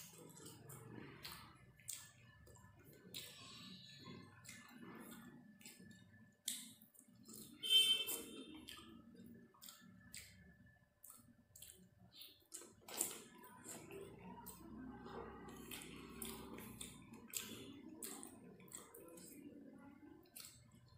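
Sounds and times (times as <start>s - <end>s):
wet chewing with lip smacks: 0.0s - 20.9s.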